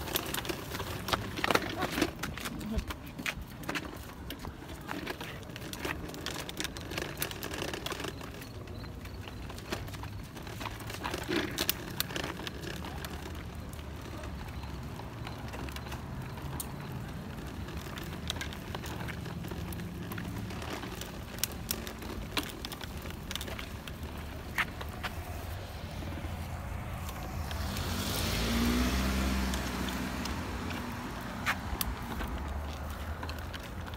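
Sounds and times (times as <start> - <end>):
plastic wheels rolling on concrete: 0.0 - 33.9.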